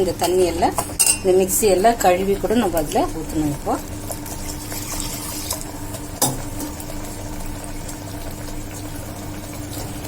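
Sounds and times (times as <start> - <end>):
bubbling hiss of frying: 0.0 - 10.0.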